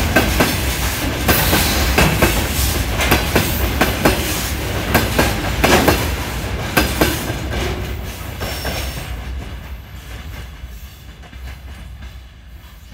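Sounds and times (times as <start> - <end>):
low rumble of freight train: 0.0 - 12.9
train wheels clacking over rail joints: 0.0 - 12.9.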